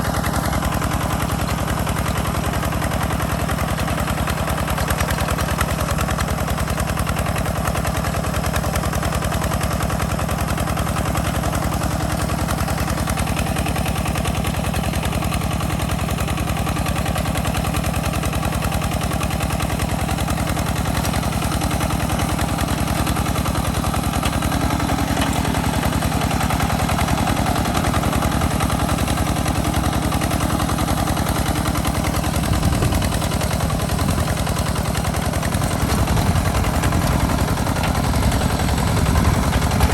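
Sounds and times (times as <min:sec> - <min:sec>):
hand tractor engine chugging: 0:00.0 - 0:39.9.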